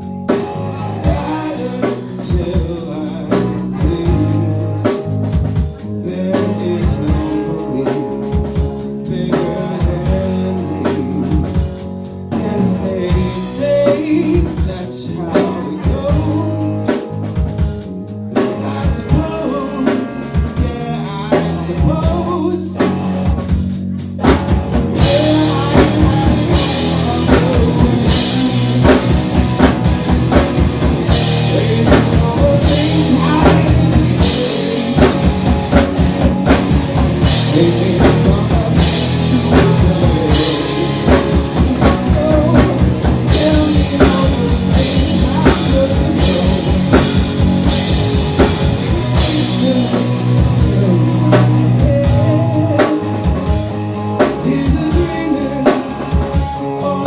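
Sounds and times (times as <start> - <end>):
person singing: 0.0 - 57.0
rock band playing: 0.0 - 57.0.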